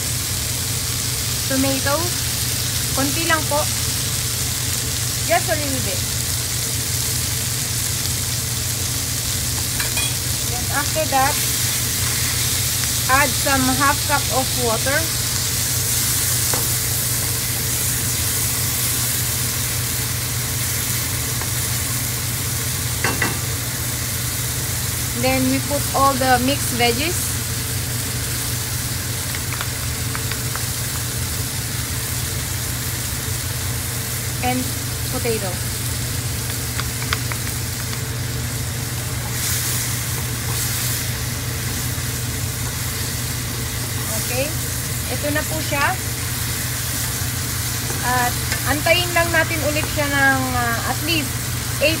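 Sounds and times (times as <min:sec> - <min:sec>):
meat sizzling in a pan: 0:00.0 - 0:52.0.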